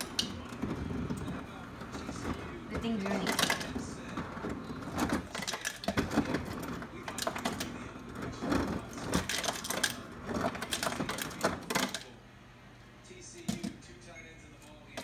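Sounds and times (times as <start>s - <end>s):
ice clattering down dispenser chute: 0.0s - 12.1s
ice dispenser running: 0.0s - 12.2s.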